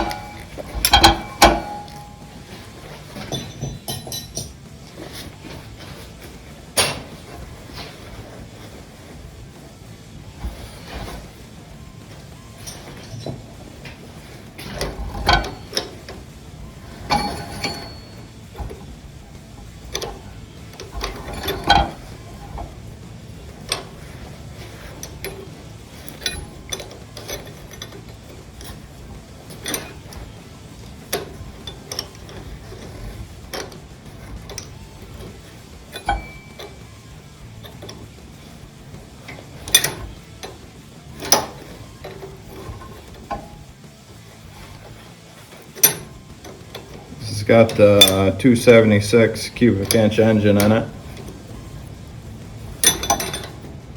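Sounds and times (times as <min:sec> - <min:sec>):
wrenches clinking on metal: 0:00.0 - 0:53.9.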